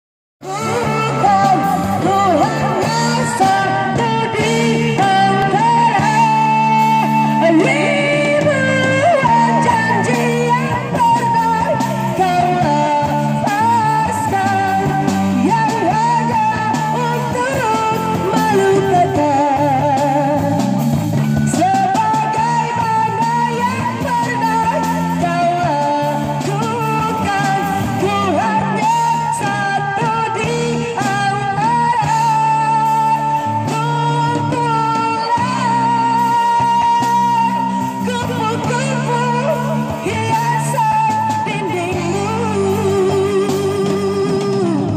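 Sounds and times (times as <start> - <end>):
electric guitar: 0.4 - 44.9
woman singing into a microphone: 0.4 - 44.9.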